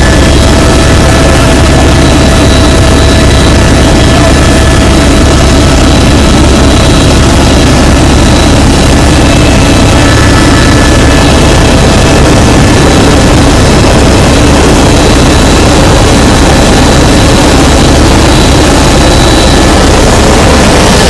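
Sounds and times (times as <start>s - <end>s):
helicopter rotor and engine noise: 0.0s - 21.0s
thin high whine: 0.0s - 21.0s.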